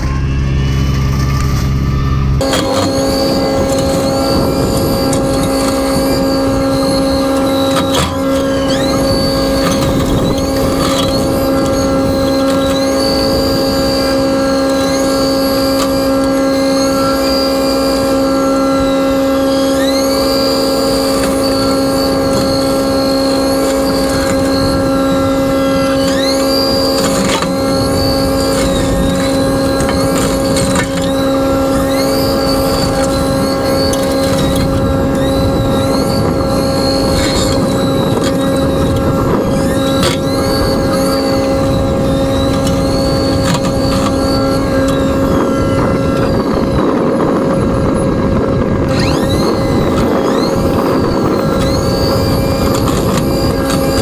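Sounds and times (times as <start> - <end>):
excavator engine drone: 0.0 - 54.0
high hydraulic mulcher whine: 0.0 - 54.0.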